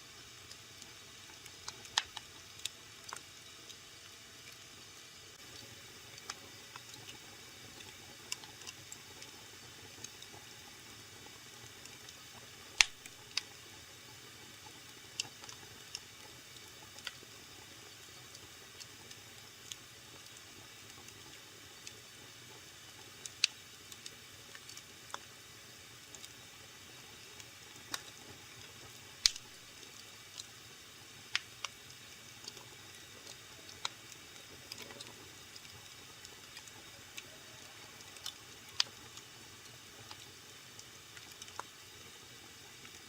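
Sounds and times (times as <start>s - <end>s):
wood fire crackling and popping: 0.2s - 4.6s, 5.3s - 43.0s.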